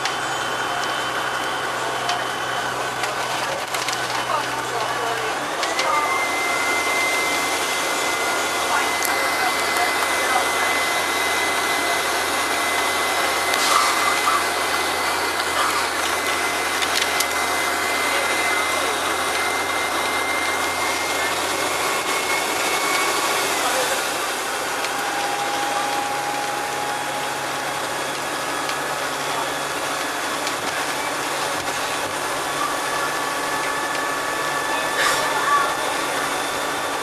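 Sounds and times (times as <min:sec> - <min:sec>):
bus engine and road noise: 0:00.0 - 0:37.0
high-pitched whine: 0:00.0 - 0:37.0.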